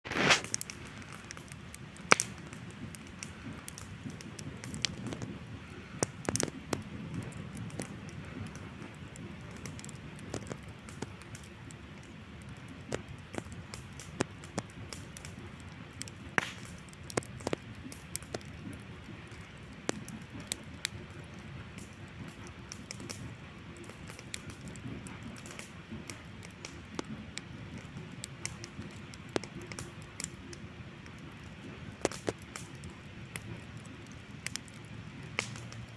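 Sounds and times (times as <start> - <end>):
campfire crackling and popping: 0.0 - 35.9.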